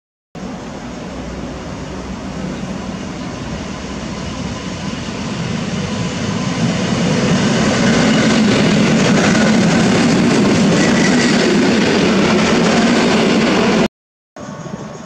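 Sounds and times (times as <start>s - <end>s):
electric train passing: 0.4s - 15.0s.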